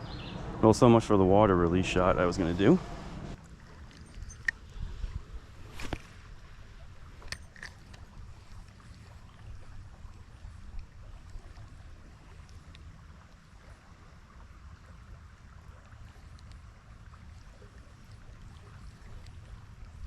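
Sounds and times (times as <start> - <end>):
river water running: 0.0 - 20.0.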